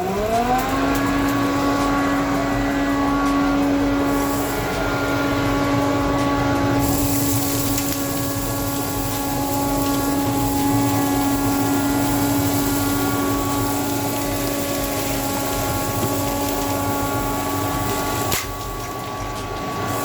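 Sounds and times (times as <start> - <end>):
dust extractor humming: 0.0 - 20.0.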